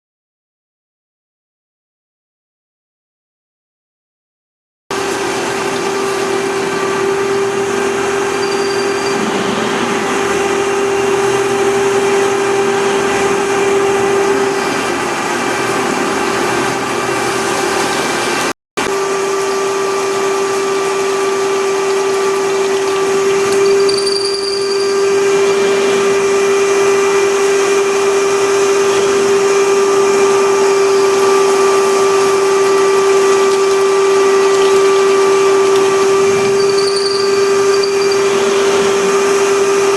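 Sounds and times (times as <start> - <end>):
drilling machine running: 4.9 - 39.9
high spindle whine: 5.0 - 39.9.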